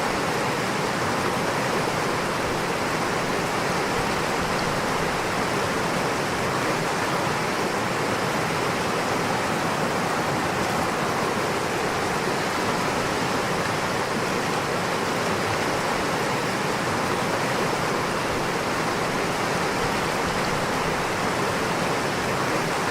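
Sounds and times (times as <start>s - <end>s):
running water rushing: 0.0s - 22.9s.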